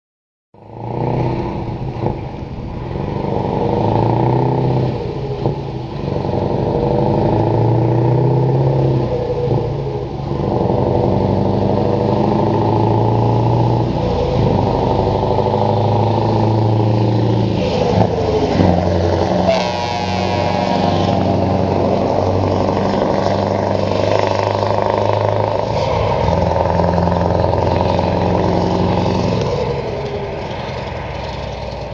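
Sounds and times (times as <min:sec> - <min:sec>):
diesel truck accelerating: 0:00.6 - 0:31.9.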